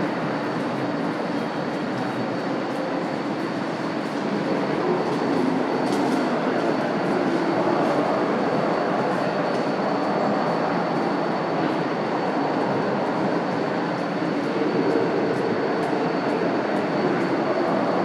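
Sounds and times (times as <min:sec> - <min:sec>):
rumble of train machinery: 0:00.0 - 0:18.0.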